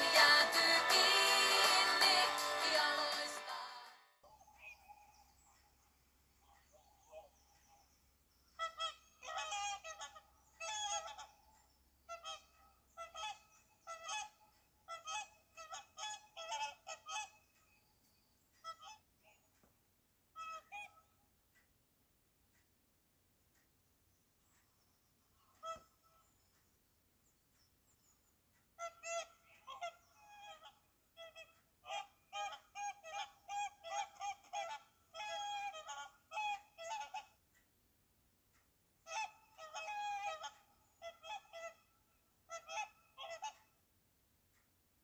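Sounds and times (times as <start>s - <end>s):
swans calling: 0.0s - 3.5s, 4.3s - 17.8s, 18.6s - 19.6s, 20.3s - 21.3s, 24.5s - 26.7s, 27.6s - 37.6s, 39.0s - 43.8s.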